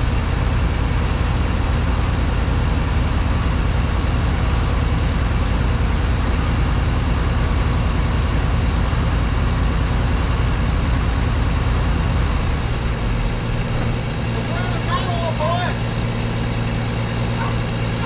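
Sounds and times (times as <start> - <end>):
heavy machinery engine rumbling: 0.0 - 18.0.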